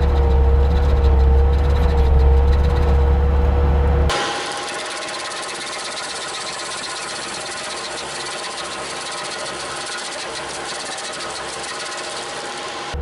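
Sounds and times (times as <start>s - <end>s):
stump grinder running: 0.0s - 13.0s.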